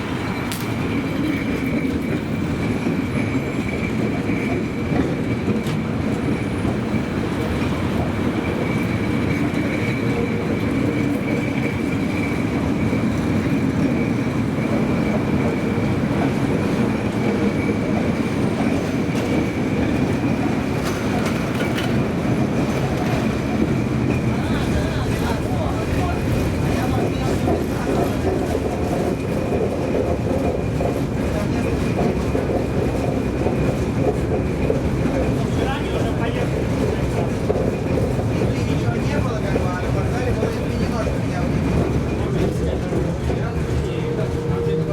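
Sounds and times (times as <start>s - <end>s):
tram wheels rumbling on rails: 0.0s - 44.9s.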